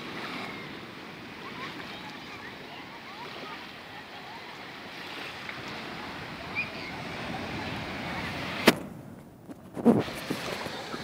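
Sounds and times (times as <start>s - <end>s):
small waves lapping on sand: 0.0s - 9.0s, 9.6s - 11.0s
wind: 0.0s - 11.0s.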